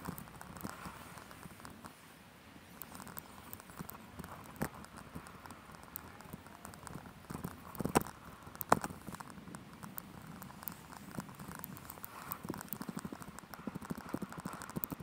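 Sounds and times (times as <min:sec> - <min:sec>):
sped-up clicks and taps: 0:02.8 - 0:15.0.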